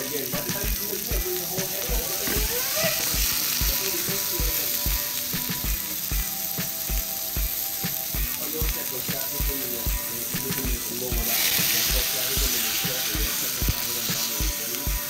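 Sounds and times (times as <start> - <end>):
background music with steady beat: 0.0 - 15.0
fish sizzling in a pan: 0.0 - 15.0.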